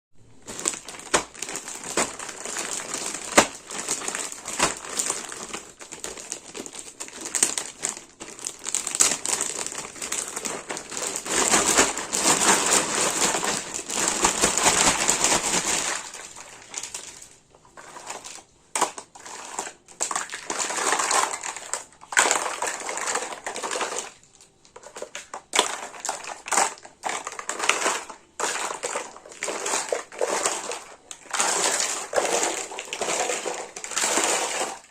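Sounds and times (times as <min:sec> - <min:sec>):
plastic packaging crinkling: 0:00.3 - 0:34.9.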